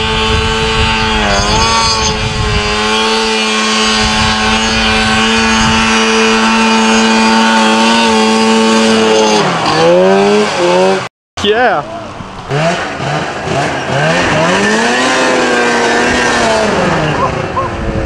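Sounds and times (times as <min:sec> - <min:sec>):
snowmobile engine at high revs: 0:00.0 - 0:18.0.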